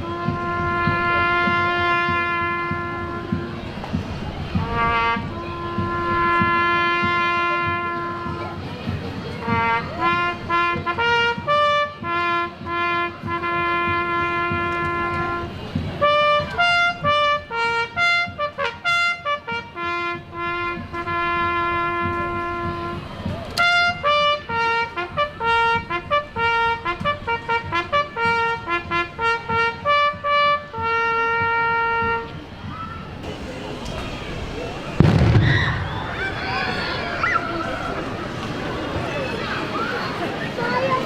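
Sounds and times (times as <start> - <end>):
brass instruments playing a tune: 0.0 - 41.0.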